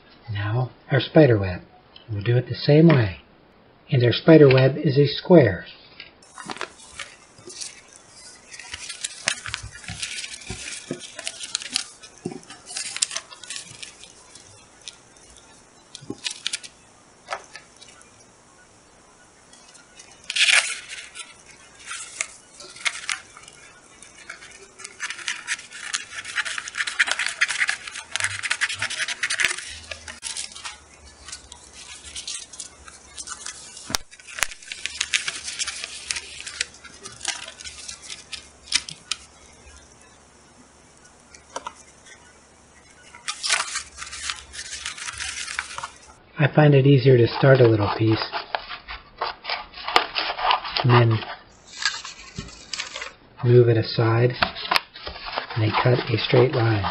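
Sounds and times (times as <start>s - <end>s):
plastic film rustling and crinkling: 6.0s - 46.2s, 47.2s - 53.2s, 54.3s - 56.9s.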